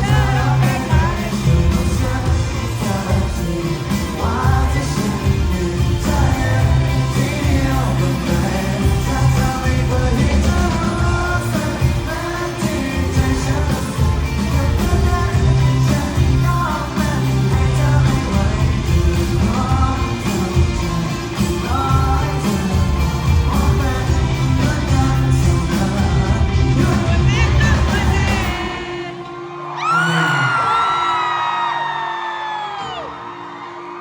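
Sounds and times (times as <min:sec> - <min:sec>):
lead vocalist singing: 0:00.0 - 0:33.2
live rock band playing: 0:00.0 - 0:34.0.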